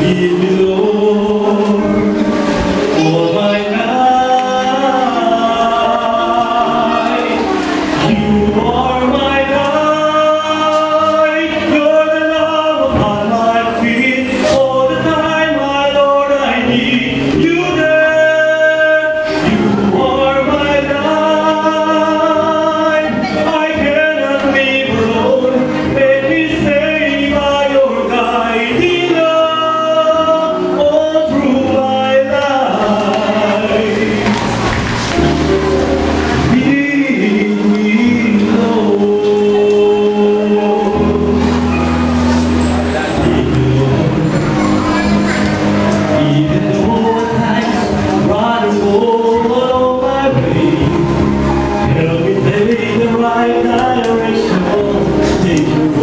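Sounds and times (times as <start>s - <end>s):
man singing into a microphone: 0.0s - 56.0s
music accompaniment: 0.0s - 56.0s.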